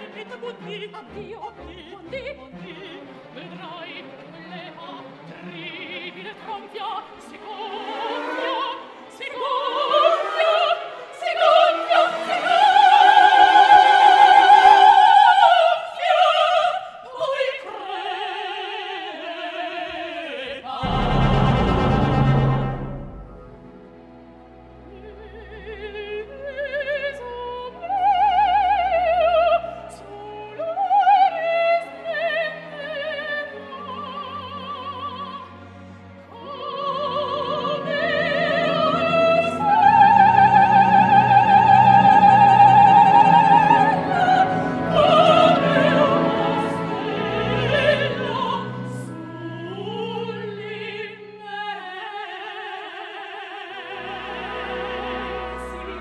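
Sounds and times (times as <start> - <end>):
orchestral accompaniment: 0.0 - 14.8, 20.7 - 51.2, 53.8 - 56.0
operatic soprano singing: 0.0 - 23.4, 24.7 - 56.0.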